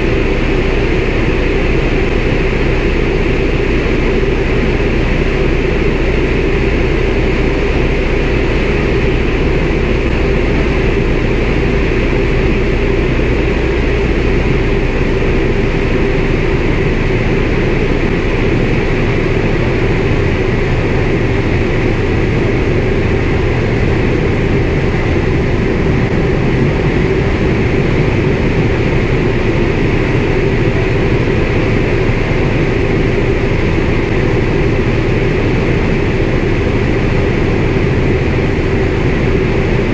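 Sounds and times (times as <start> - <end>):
aircraft radial engine running: 0.0 - 39.9.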